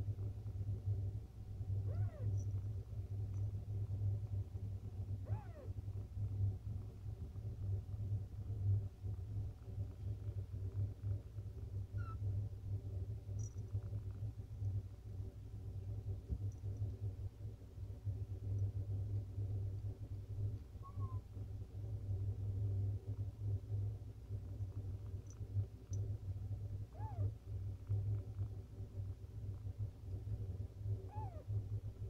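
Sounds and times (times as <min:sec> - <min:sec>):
cat purring: 0:00.7 - 0:31.8.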